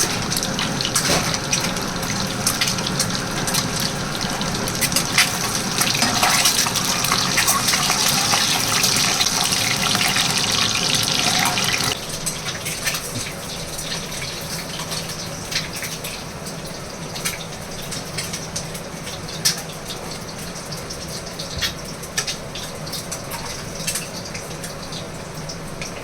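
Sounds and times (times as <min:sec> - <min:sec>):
tap water running into sink: 0:00.0 - 0:26.0.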